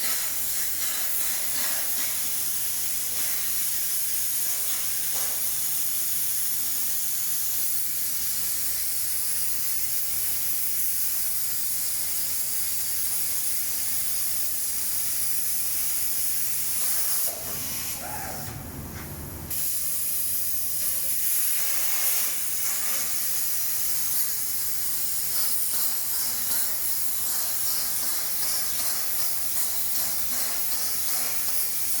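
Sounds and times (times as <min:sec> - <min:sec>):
plasma torch hissing: 0:00.0 - 0:18.7, 0:19.5 - 0:32.0.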